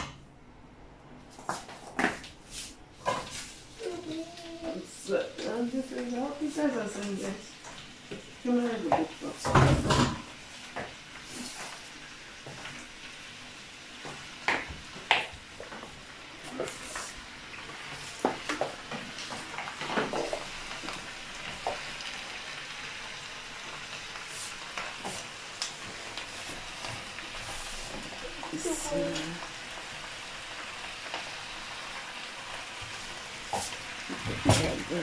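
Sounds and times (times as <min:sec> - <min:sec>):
vegetables sizzling in oil: 0:02.5 - 0:35.0.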